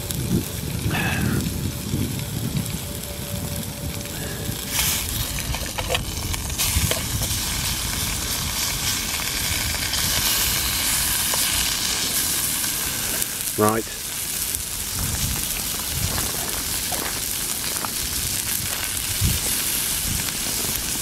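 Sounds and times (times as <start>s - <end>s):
steak sizzling in a pan: 4.1s - 21.0s.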